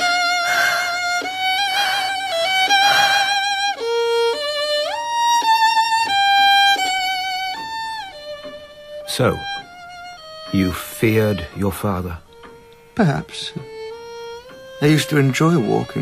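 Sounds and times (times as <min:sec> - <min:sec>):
solo violin slow melody: 0:00.0 - 0:16.0.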